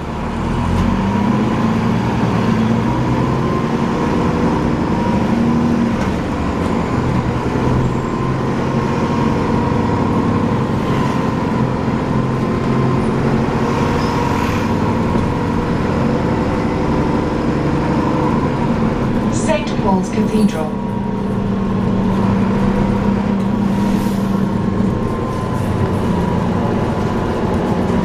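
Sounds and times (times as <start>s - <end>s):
bus drivetrain drone: 0.0s - 28.0s.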